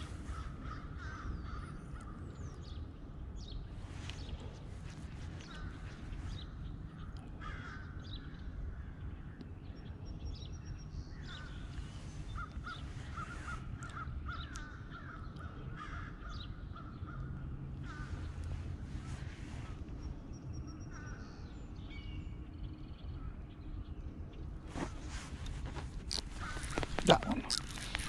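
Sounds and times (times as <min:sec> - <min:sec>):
birds calling harshly: 0:00.0 - 0:22.4, 0:24.7 - 0:28.0
low background rumble: 0:00.0 - 0:28.0.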